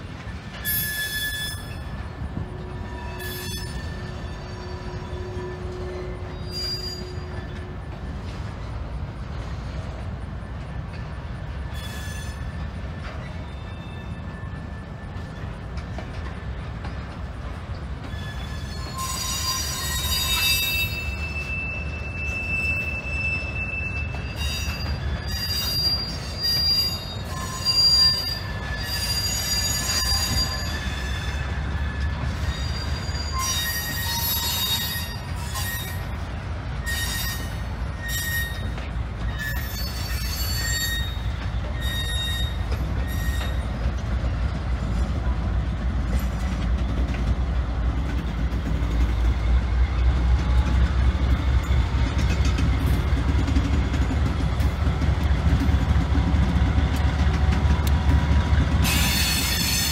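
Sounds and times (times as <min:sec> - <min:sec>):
diesel locomotive rumble: 0:00.0 - 0:59.9
train wheels squealing: 0:00.0 - 0:59.9.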